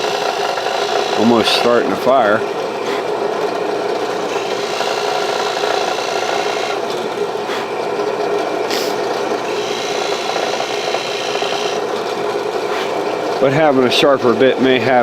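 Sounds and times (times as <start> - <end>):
electric drill grinding in wood: 0.0 - 2.2, 2.8 - 13.1.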